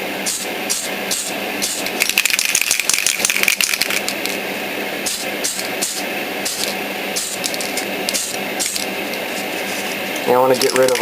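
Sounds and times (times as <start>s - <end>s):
spray can hissing bursts: 0.0s - 4.4s, 5.0s - 9.9s
aerosol can mixing ball rattling: 0.2s - 4.4s, 5.1s - 9.9s, 10.5s - 11.0s.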